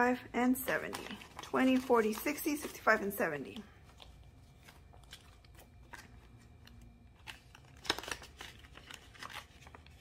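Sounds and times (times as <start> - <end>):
plastic envelope crinkling: 0.0 - 10.0
paper banknotes rustling: 0.6 - 10.0.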